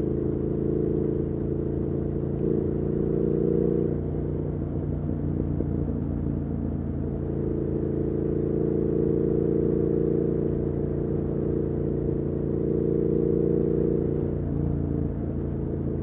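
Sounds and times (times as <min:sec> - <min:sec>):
motorcycle engine while riding: 0:00.0 - 0:16.0.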